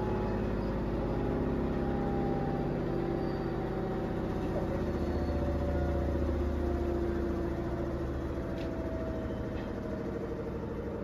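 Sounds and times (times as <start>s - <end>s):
washing machine motor winding down: 0.0s - 11.0s.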